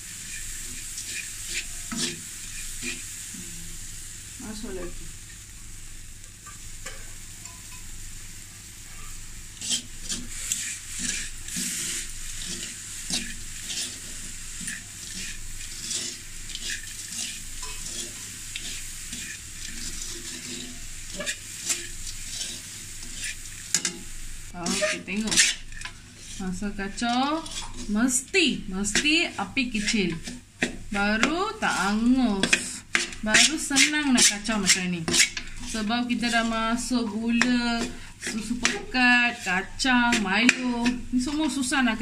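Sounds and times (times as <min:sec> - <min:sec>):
metal spoon scraping a wok: 0:00.0 - 0:03.3, 0:08.8 - 0:42.0
frying sizzle: 0:00.0 - 0:42.0.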